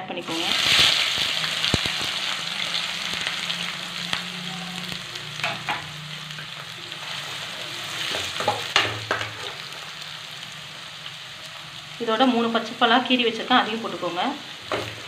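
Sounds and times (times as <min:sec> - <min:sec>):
onions sizzling in hot oil: 0:00.1 - 0:15.0.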